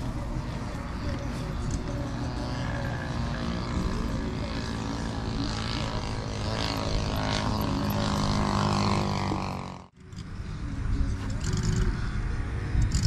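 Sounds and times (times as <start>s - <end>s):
model airplane engine: 0.0s - 13.0s.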